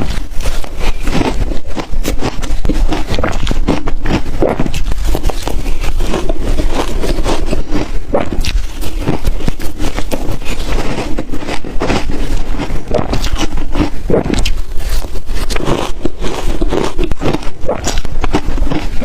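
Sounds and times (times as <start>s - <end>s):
ice crunching in mouth: 0.0s - 19.0s.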